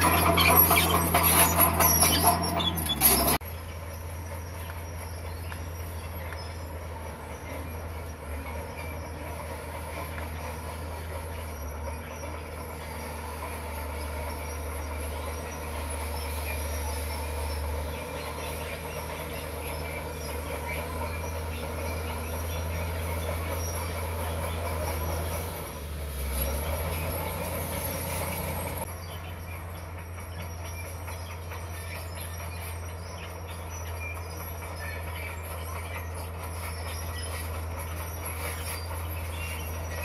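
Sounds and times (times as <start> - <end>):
bulldozer diesel engine droning: 0.0 - 40.0
crawler tracks clanking and squealing: 0.0 - 40.0.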